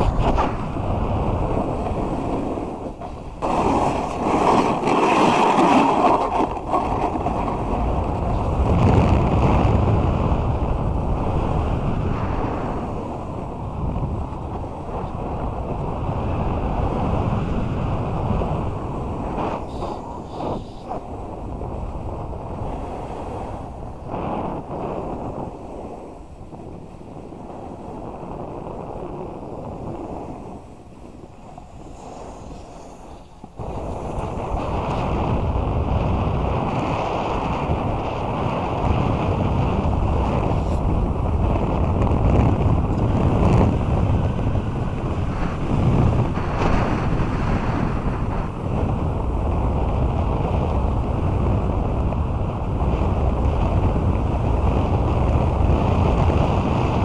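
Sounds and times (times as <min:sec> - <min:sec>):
snowboard sliding over snow: 0:00.0 - 0:57.0
wind rushing over microphone: 0:00.0 - 0:57.0.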